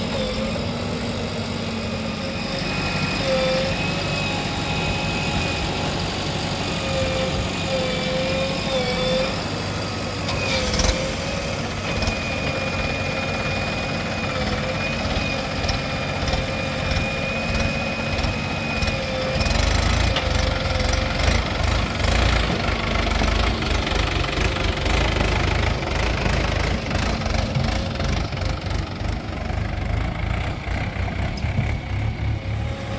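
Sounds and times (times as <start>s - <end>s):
diesel engine running: 0.0s - 32.9s
rough engine clatter: 5.2s - 32.9s.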